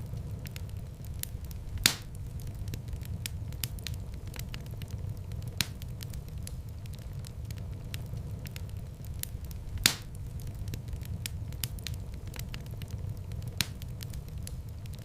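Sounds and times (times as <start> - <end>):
fire pops: 0.0 - 15.0
wood fire crackling: 0.0 - 15.0.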